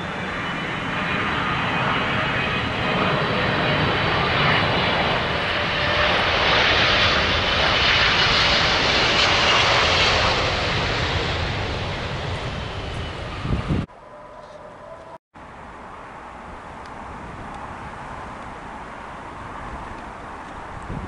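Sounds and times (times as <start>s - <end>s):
jet engines rushing and whining: 0.0s - 21.0s.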